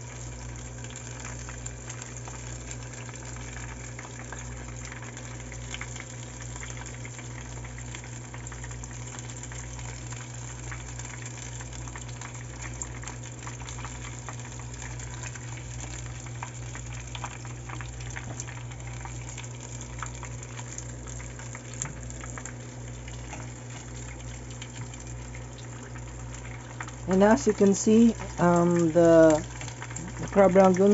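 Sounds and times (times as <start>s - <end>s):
deep-frying sizzle and pops: 0.0s - 30.9s
low steady hum: 0.0s - 30.9s.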